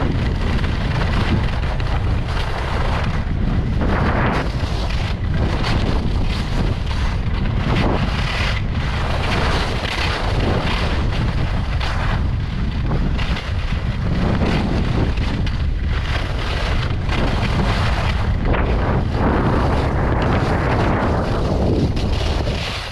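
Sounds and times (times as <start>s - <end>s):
skis carving on snow: 0.0s - 22.9s
wind buffeting microphone: 0.0s - 22.9s.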